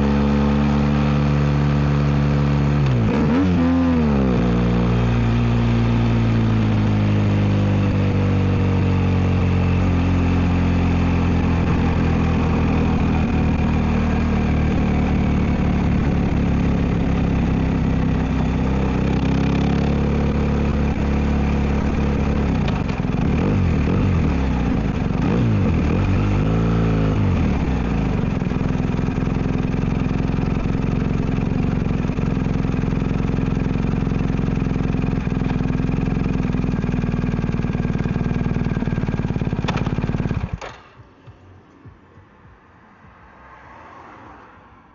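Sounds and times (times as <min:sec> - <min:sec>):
motorcycle engine: 0:00.0 - 0:42.6
motorcycle throttle blips: 0:04.3 - 0:42.6.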